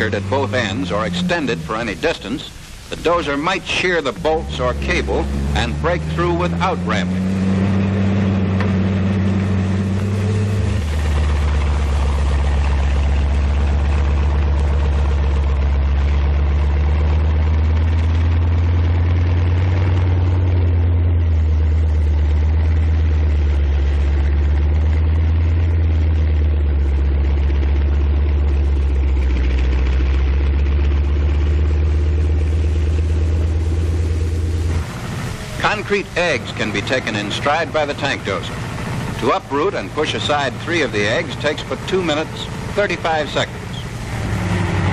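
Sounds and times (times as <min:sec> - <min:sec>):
tank engine droning: 0:00.0 - 0:44.9.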